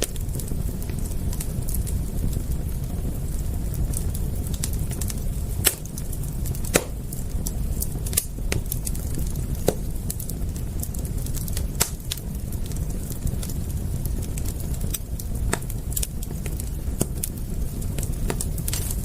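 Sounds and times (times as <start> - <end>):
low fire rumble: 0.0 - 19.0
sharp fire pops: 0.0 - 19.0
wood fire crackling: 0.0 - 19.0.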